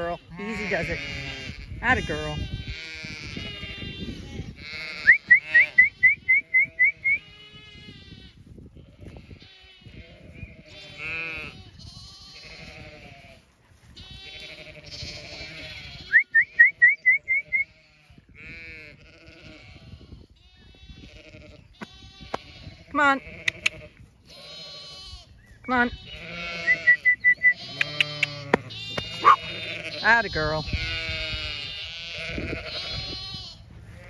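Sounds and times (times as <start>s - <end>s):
sheep and lambs bleating: 0.0s - 34.0s.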